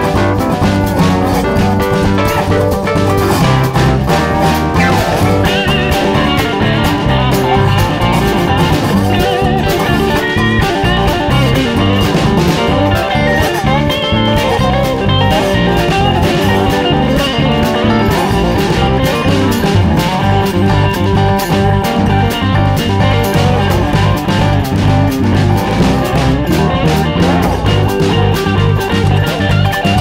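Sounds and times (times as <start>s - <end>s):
drum kit: 0.0s - 30.0s
electric guitar: 0.0s - 30.0s
keyboard: 0.0s - 30.0s.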